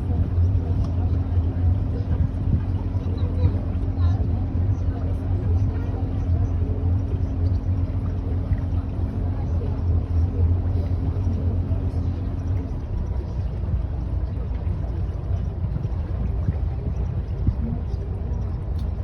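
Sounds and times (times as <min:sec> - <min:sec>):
boat engine low hum: 0:00.0 - 0:19.0.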